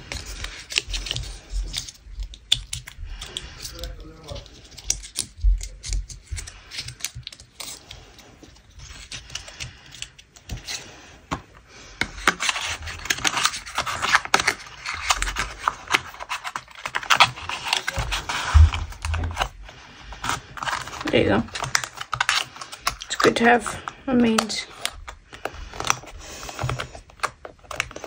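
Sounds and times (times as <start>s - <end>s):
card rustling and scraping: 0.0s - 28.0s.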